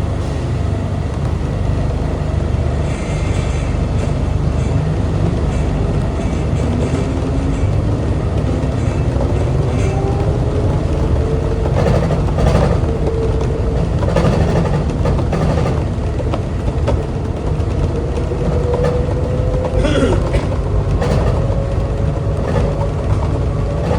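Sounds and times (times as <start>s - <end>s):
train running low rumble: 0.0s - 23.9s.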